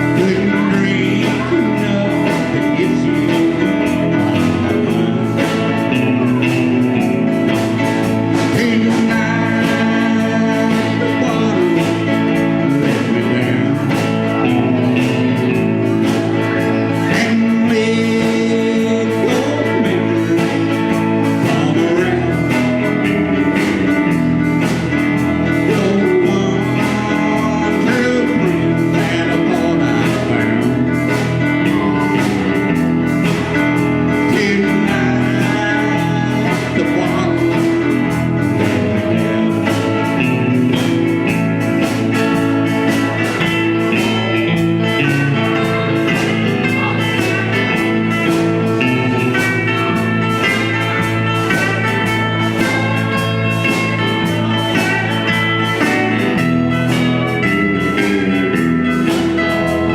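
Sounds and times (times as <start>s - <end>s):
band playing blues song: 0.0s - 59.9s.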